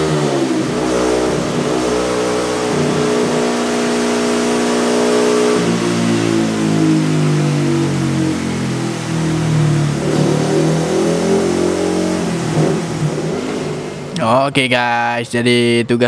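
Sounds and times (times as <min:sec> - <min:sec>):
motorcycle engine revving on dyno: 0:00.0 - 0:14.2.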